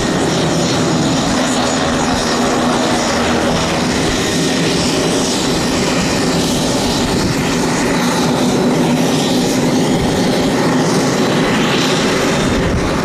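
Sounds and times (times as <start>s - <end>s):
turboprop propeller drone: 0.0s - 13.0s.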